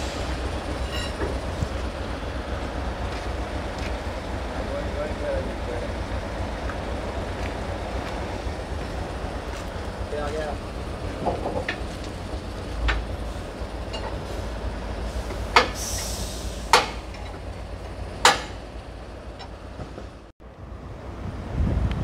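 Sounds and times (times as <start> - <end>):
heavy trailer rumbling: 0.0 - 22.0.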